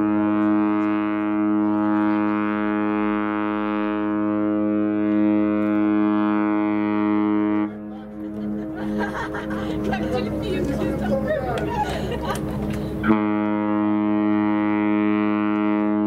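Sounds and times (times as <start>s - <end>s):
ship horn blast: 0.0s - 16.0s.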